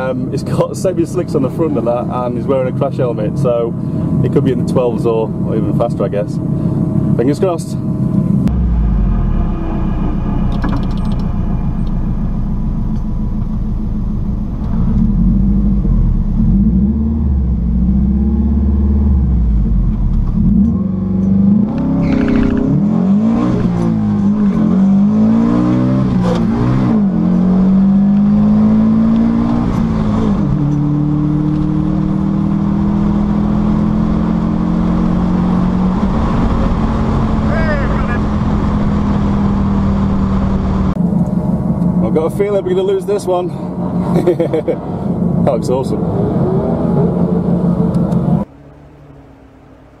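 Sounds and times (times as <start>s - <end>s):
drag car engine accelerating: 0.0s - 50.0s.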